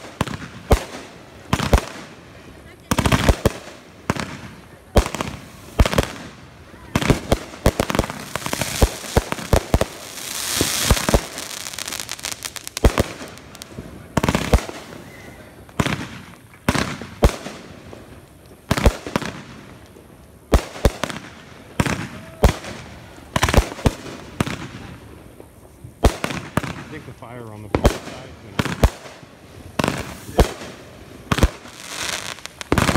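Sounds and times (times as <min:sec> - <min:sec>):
fireworks bangs: 0:00.0 - 0:19.8, 0:20.5 - 0:32.9
fireworks crackling hiss: 0:00.0 - 0:32.9.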